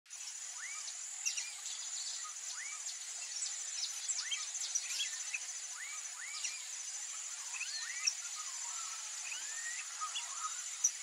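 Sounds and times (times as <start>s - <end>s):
high-pitched insect trill: 0.3s - 11.0s.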